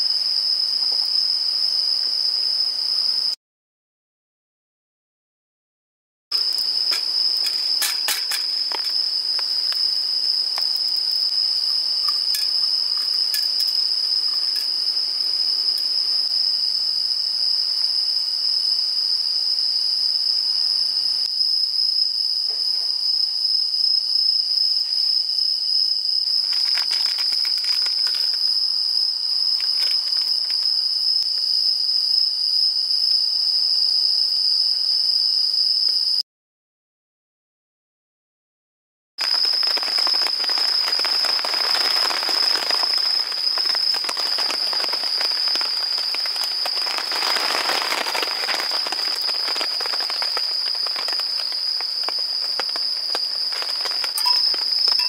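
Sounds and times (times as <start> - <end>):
crickets chirring: 0.0 - 3.4, 6.3 - 36.2, 39.2 - 55.0.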